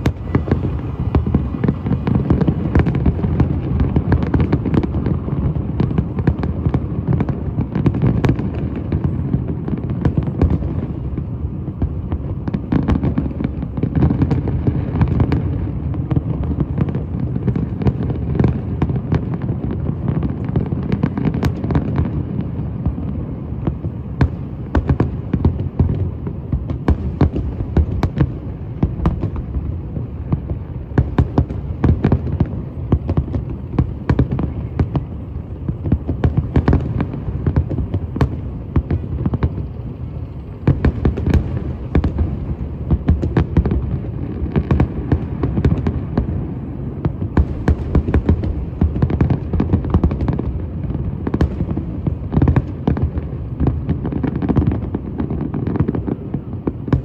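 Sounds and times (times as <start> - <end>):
fireworks bangs and cracks: 0.0 - 57.0.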